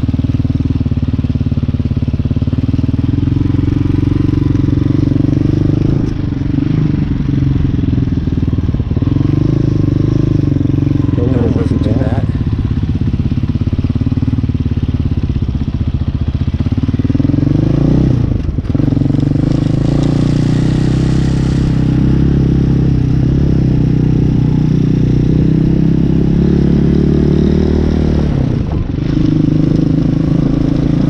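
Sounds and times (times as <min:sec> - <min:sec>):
dirt bike engine running: 0:00.0 - 0:31.0.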